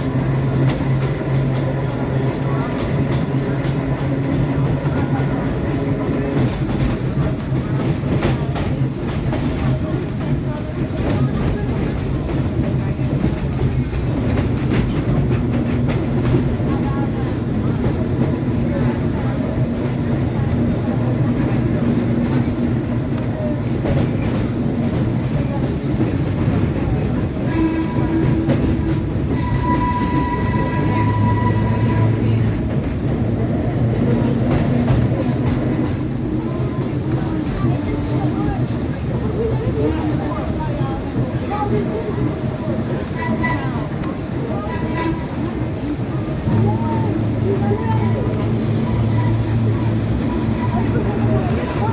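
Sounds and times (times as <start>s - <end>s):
subway train rumbling: 0.0s - 51.9s.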